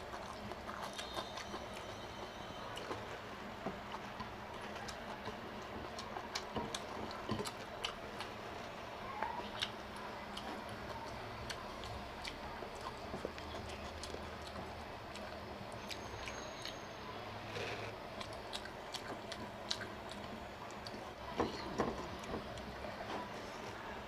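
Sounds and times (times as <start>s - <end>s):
person chewing food: 0.0s - 8.8s, 9.4s - 16.8s, 17.4s - 23.6s.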